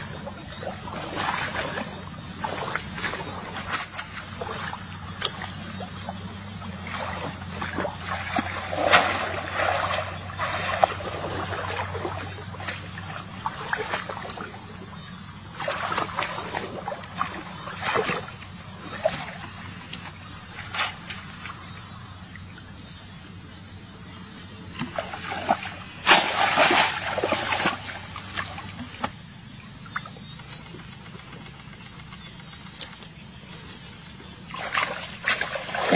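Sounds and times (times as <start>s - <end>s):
muddy water splashing: 0.0s - 35.9s
steady low hum: 0.0s - 35.9s.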